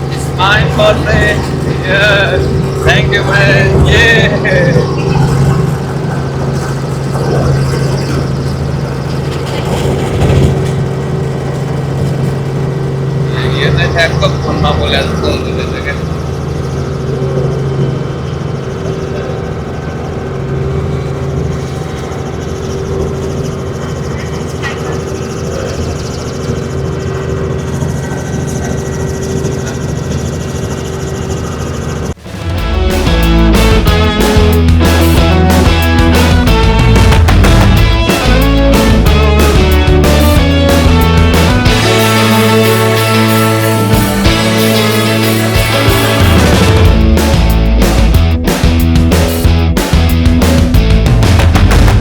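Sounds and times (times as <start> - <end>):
helicopter engine and rotors: 0.0 - 52.0.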